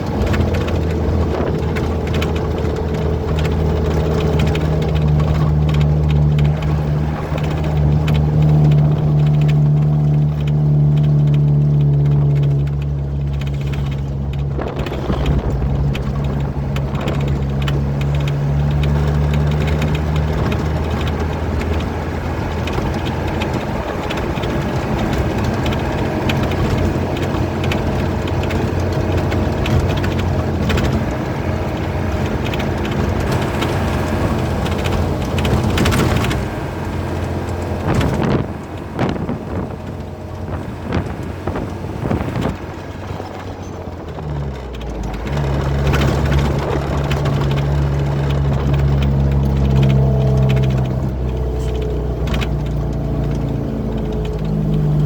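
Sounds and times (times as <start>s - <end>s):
rattly road noise rumble: 0.0s - 55.0s
truck engine humming: 0.0s - 55.0s.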